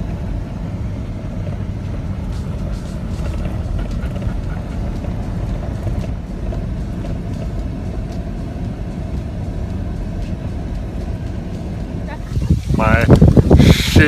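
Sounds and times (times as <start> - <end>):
car engine and tyres rumbling: 0.0 - 14.0
tyres on gravel road: 0.0 - 14.0.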